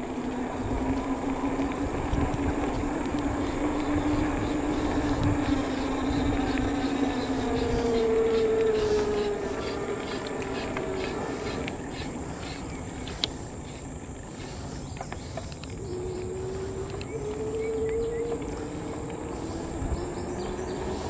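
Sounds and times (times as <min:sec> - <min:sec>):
electric bike motor whining: 0:00.0 - 0:21.0
wind noise on microphone: 0:00.0 - 0:21.0.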